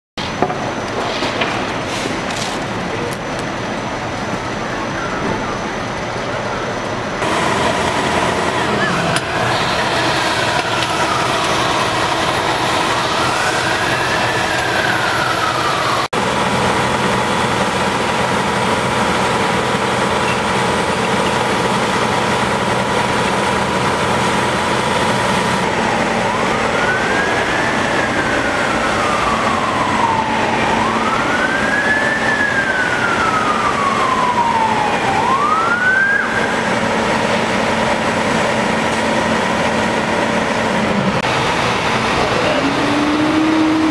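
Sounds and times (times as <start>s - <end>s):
fire truck engines droning: 0.2s - 43.9s
fire truck siren wailing: 2.2s - 43.9s.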